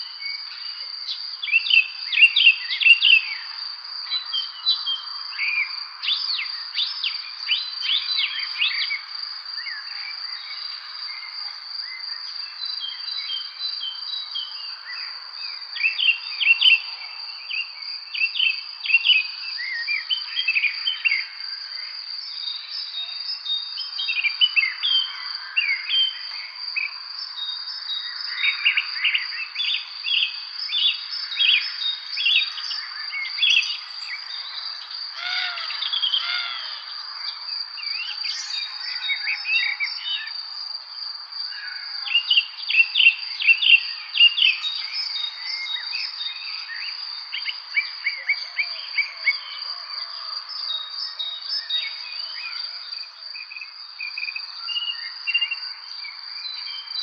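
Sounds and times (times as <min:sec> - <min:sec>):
crickets trilling: 0:00.0 - 0:57.0
songbirds chirping: 0:00.0 - 0:57.0.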